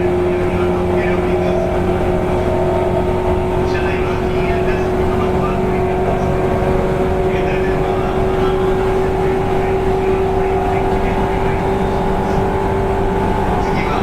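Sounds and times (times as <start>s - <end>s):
high motor whine: 0.0s - 14.0s
train motor hum: 0.0s - 14.0s
train wheels rumbling on rail: 0.0s - 14.0s.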